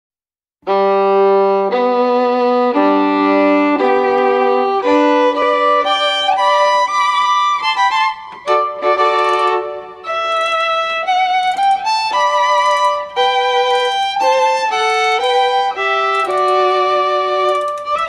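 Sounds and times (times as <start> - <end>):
slow violin melody: 0.6 - 18.0.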